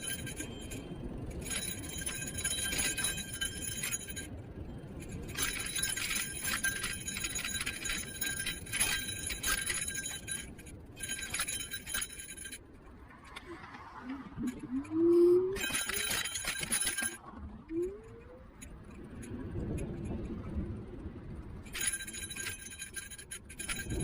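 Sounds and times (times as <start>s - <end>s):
metallic jingling of scooter: 0.0s - 24.0s
wheels rumbling on road: 0.0s - 24.0s.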